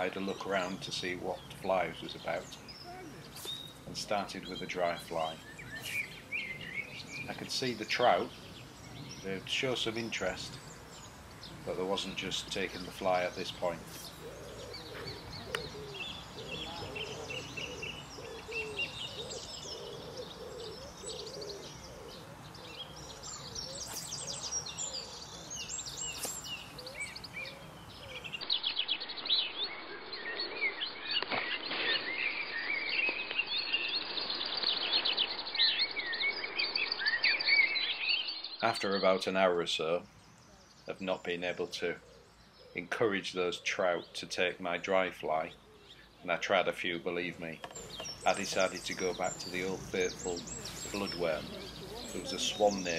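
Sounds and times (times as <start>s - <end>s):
outdoor background hiss: 0.0s - 52.9s
wild birds chirping and singing: 0.0s - 52.9s.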